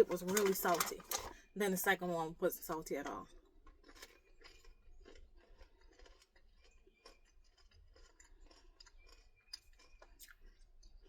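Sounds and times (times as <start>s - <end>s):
chewing popcorn crunches: 0.0s - 11.0s.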